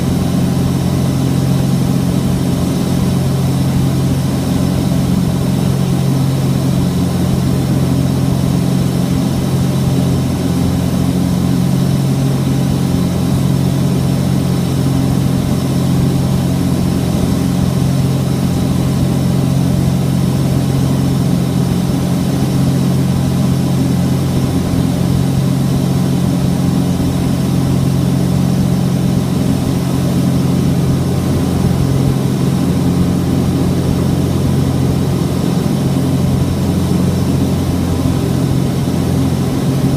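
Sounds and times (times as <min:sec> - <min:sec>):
twin propeller engines droning: 0:00.0 - 0:39.9.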